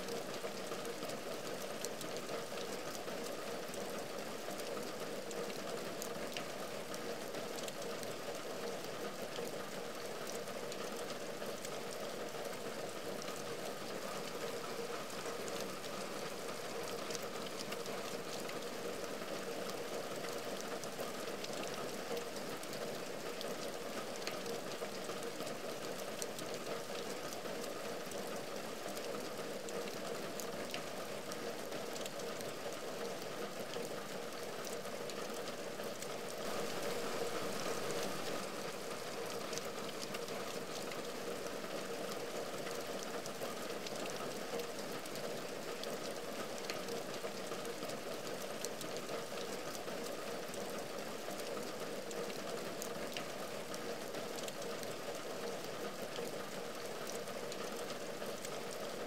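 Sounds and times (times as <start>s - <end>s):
rain hiss on window: 0.0s - 59.0s.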